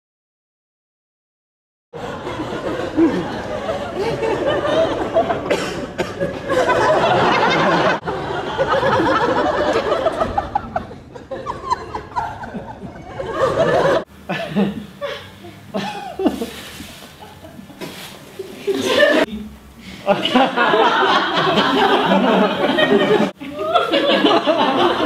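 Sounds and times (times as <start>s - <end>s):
audience laughing: 2.0s - 25.0s.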